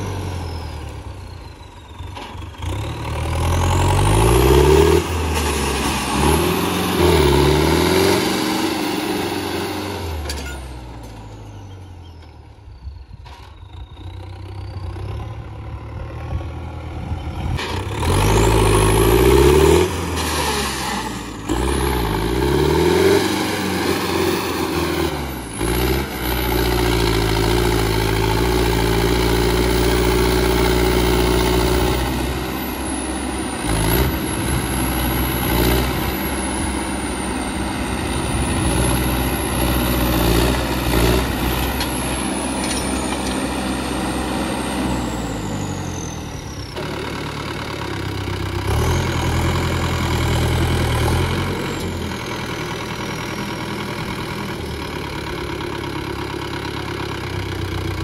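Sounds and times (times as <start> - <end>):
tractor diesel engine revving: 0.0 - 11.7, 14.0 - 58.0.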